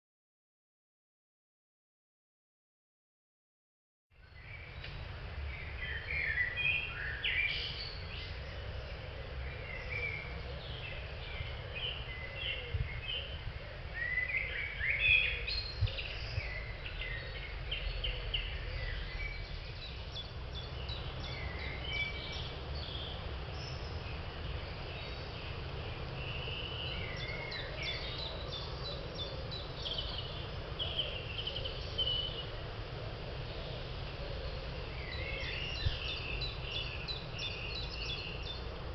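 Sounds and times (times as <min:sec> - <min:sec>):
songbirds singing and chirping: 0:04.1 - 0:38.9.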